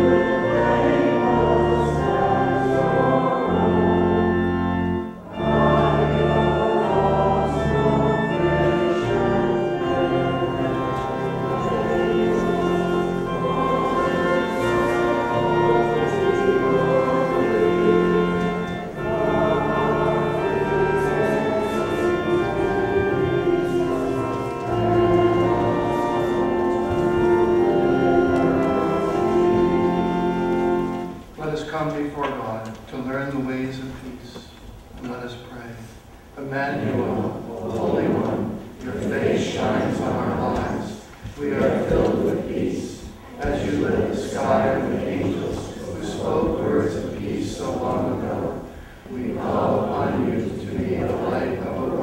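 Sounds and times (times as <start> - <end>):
choir and congregation singing hymn: 0.0 - 31.6, 36.3 - 52.0
church organ: 0.0 - 52.0.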